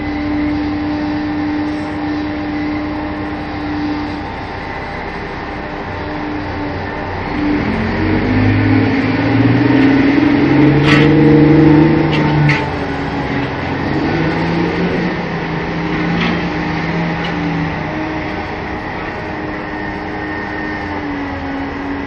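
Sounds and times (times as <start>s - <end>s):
heavy diesel engines working: 0.0s - 22.0s.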